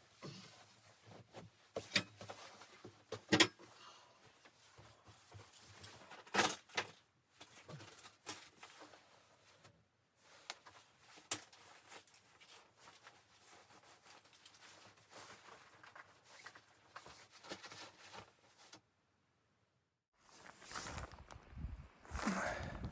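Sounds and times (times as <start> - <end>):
faint rustling: 0.0 - 18.8.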